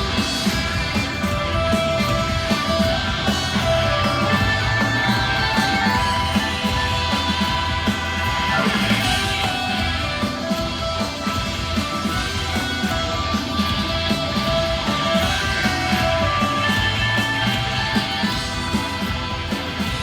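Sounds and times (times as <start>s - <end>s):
electric guitars sustained notes: 0.0s - 20.0s
steady drum beat: 0.0s - 20.0s.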